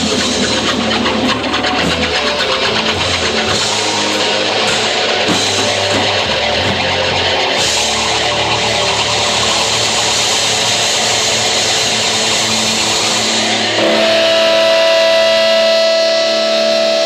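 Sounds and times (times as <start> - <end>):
rock band with distorted guitars: 0.0 - 17.0
sustained guitar note ringing: 1.0 - 17.0.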